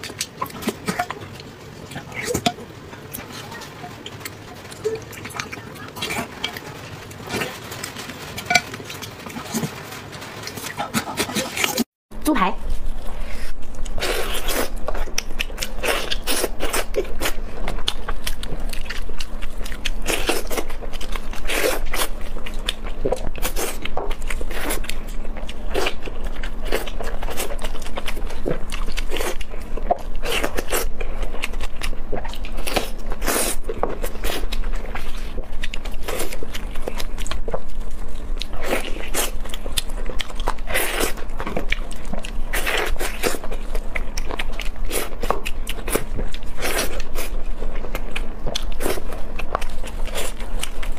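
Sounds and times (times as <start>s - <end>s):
biting and chewing: 0.0s - 11.9s, 12.8s - 50.9s.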